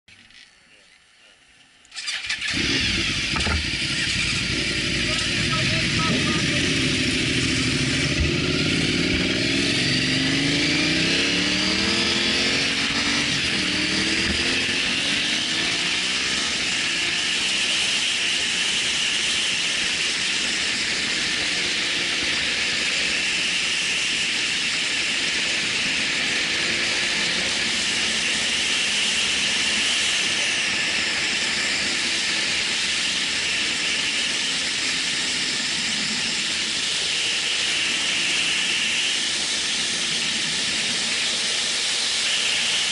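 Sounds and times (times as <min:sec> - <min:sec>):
motorcycle engine accelerating: 0:01.9 - 0:42.9.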